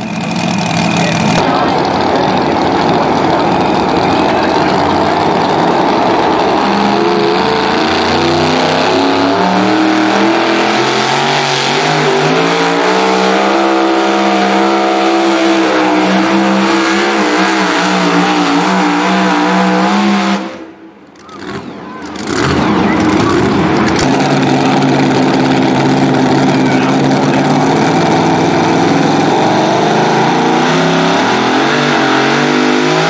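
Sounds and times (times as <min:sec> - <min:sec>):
truck engine running hard: 0:00.0 - 0:33.0.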